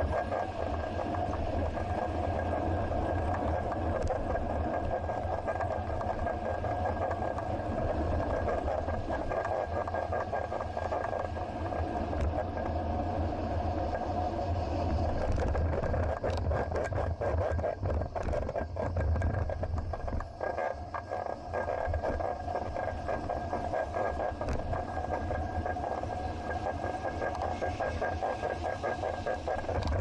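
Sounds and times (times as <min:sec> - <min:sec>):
thin steady whine: 0:00.0 - 0:30.0.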